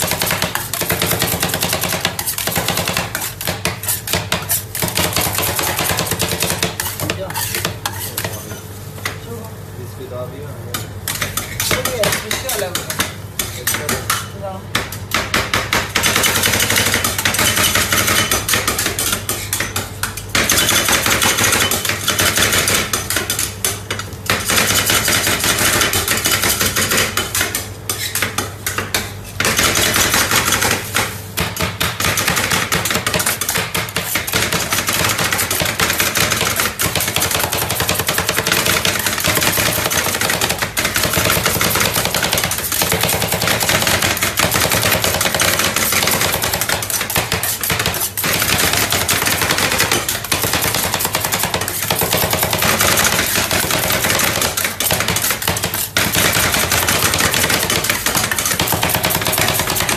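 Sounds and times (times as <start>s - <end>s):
metal spatulas chopping on steel: 0.0s - 8.7s, 10.7s - 59.9s.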